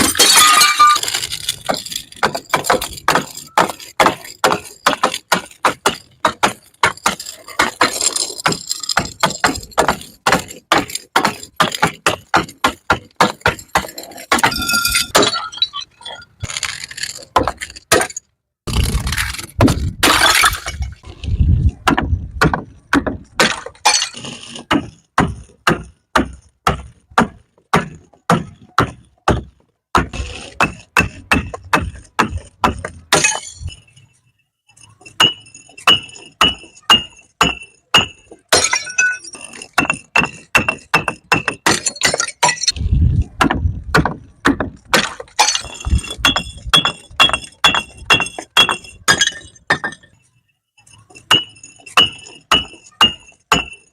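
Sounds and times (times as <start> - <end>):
glass bottles breaking on stairs: 0.0 - 18.8, 19.6 - 21.0, 23.1 - 26.5, 30.6 - 33.9, 35.1 - 42.8, 44.4 - 50.2, 51.1 - 53.9.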